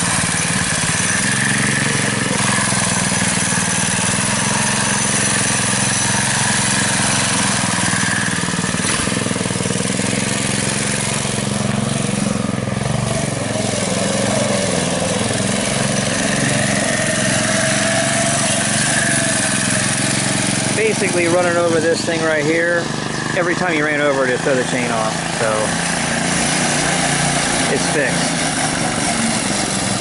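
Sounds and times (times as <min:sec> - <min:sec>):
small gasoline engine running: 0:00.0 - 0:30.0.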